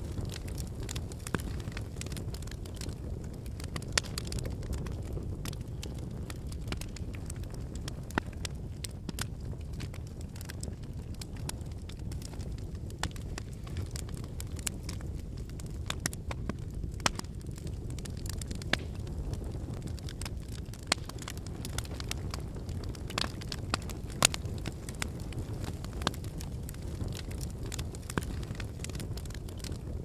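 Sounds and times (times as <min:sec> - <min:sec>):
firewood crackling and popping: 0:00.0 - 0:30.0
low rumble of flames: 0:00.0 - 0:30.0.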